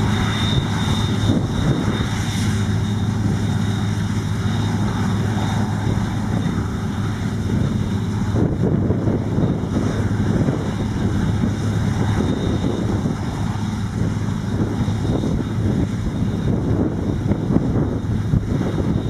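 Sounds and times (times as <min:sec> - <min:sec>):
combine harvester drone: 0:00.0 - 0:19.0.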